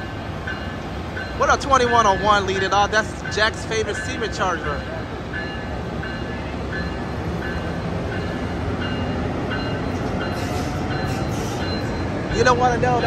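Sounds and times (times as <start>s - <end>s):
train engine and wheels rumbling: 0.0s - 13.0s.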